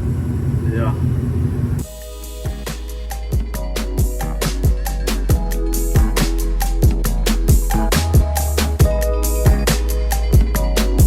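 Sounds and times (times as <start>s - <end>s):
music with drums and deep bass: 1.8s - 11.0s.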